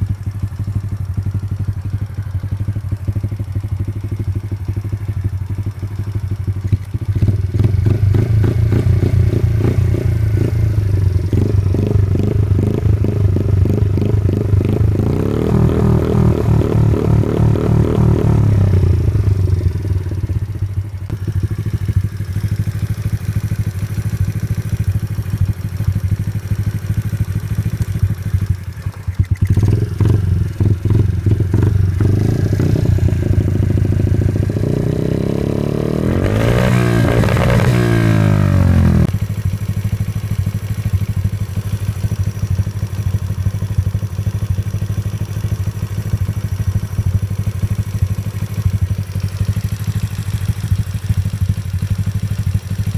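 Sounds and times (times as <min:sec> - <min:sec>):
motorbike engine idling and revving: 0:00.0 - 0:52.9.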